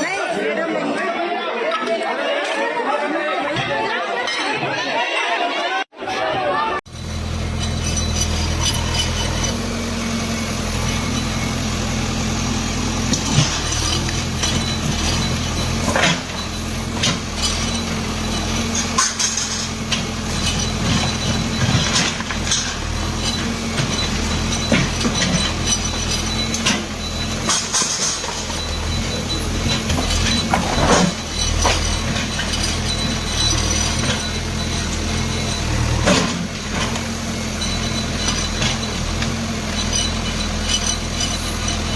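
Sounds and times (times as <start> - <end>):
bulldozer diesel engine running: 6.9 - 41.9.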